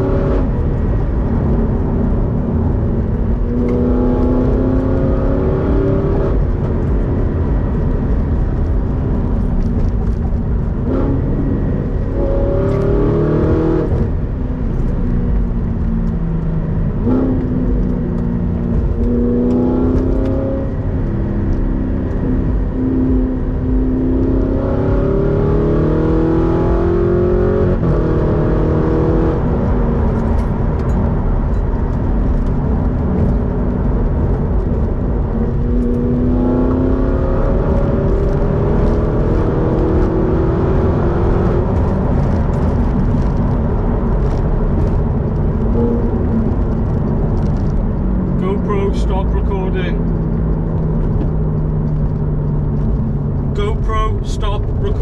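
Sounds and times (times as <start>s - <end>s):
car engine accelerating: 0.0s - 55.0s
low road rumble: 0.0s - 55.0s.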